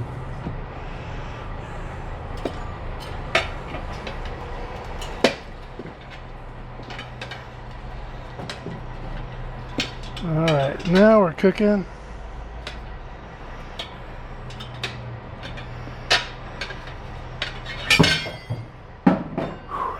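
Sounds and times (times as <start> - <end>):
steady low hum: 0.0 - 19.9
metal tools clinking on wheel rim: 2.4 - 19.9.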